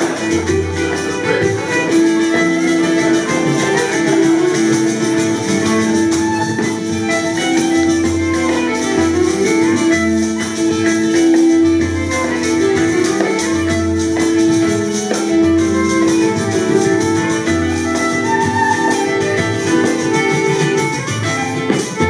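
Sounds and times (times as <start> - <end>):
acoustic guitar: 0.0 - 22.0
fiddle: 0.0 - 22.0
frame drums beat: 0.0 - 22.0.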